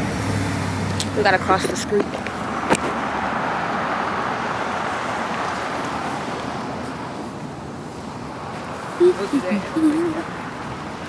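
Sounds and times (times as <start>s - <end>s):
passing vehicle rush: 0.0s - 11.0s.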